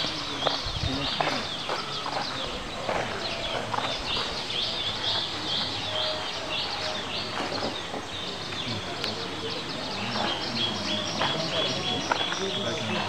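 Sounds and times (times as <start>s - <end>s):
bird chirping: 0.0s - 13.0s
people talking faintly: 0.0s - 13.0s.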